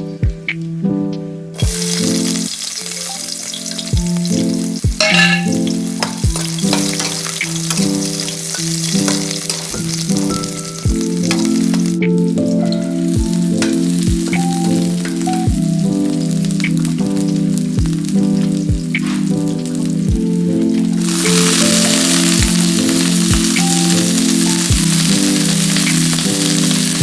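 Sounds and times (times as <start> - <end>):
background music: 0.0 - 27.0
meat sizzling in a pan: 1.6 - 12.0, 12.8 - 27.0.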